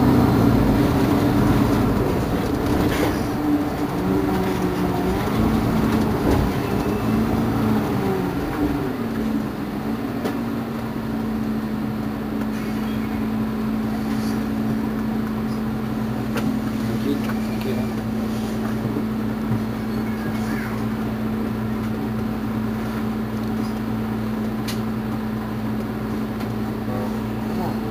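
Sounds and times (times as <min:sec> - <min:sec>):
bus engine idling: 0:00.0 - 0:27.9.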